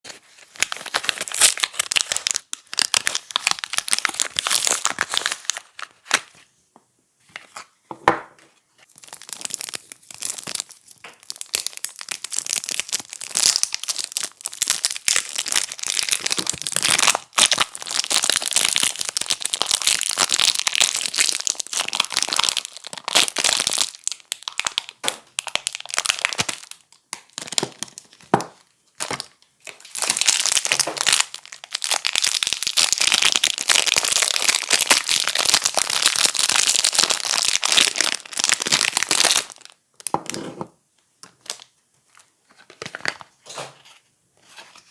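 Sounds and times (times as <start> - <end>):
packaging crinkling and tearing: 0.1 - 6.4, 8.8 - 40.2.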